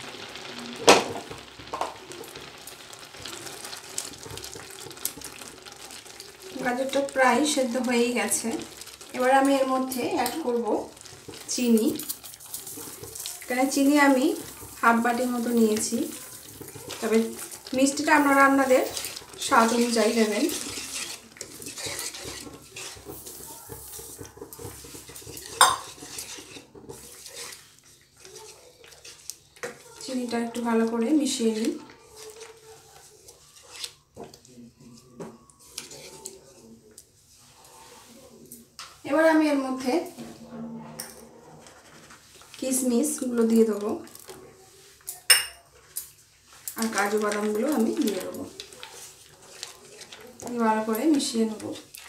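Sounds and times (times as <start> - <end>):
milk bubbling in a frying pan: 0.0 - 52.0
spatula stirring and scraping: 0.0 - 52.0.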